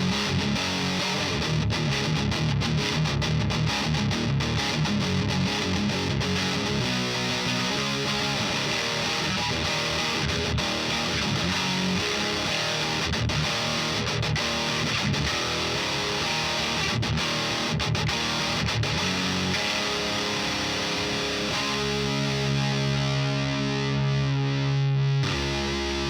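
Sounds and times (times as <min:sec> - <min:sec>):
distorted electric guitar riffing: 0:00.0 - 0:26.0.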